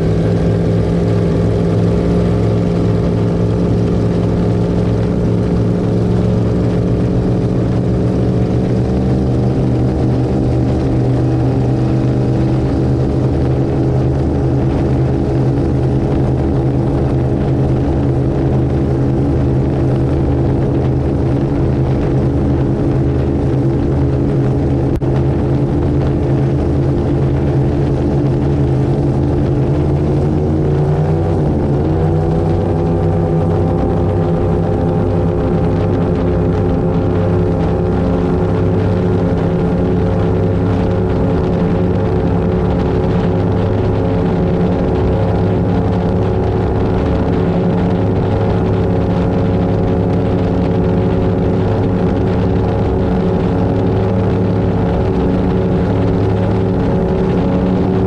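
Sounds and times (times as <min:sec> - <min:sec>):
boat engines running: 0:00.0 - 0:58.0.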